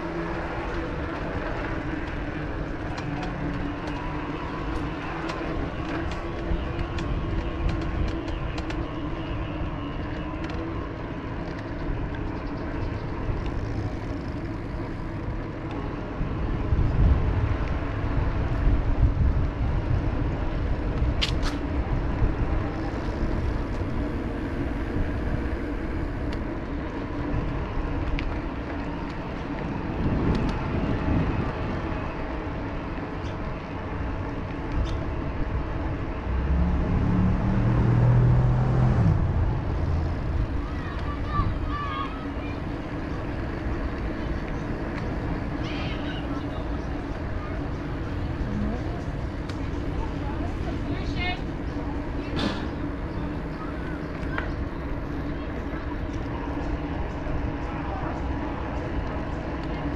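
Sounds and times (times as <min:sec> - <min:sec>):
road traffic: 0:00.0 - 0:59.9
wind rumble on microphone: 0:00.0 - 0:59.9.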